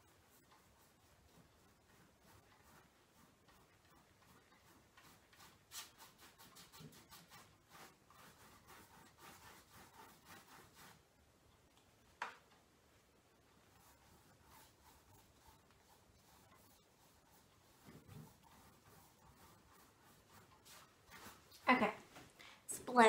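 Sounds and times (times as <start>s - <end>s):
paintbrush strokes on canvas: 0.0s - 11.2s, 13.0s - 22.3s.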